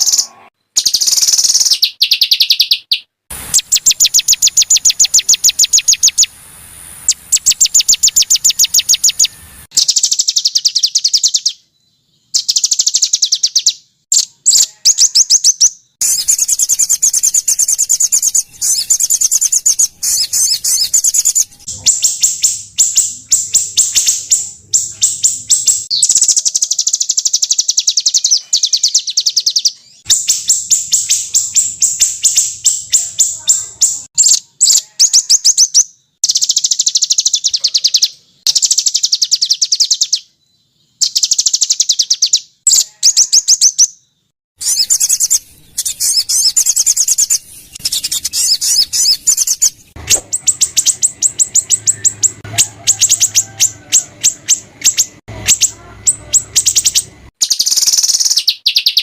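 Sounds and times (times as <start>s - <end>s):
songbirds rapid harsh trills: 0.0s - 40.2s, 40.8s - 59.0s.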